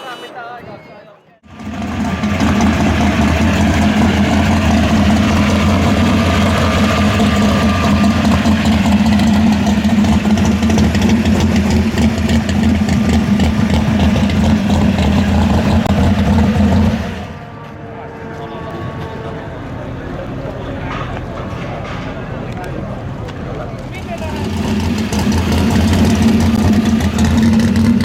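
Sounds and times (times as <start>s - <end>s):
car engine idling: 1.4s - 28.0s.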